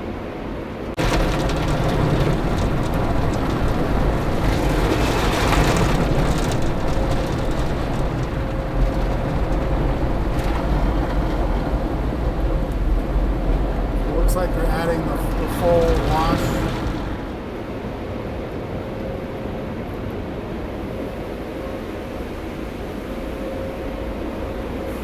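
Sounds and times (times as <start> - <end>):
car wash machinery noise: 0.1 - 25.0.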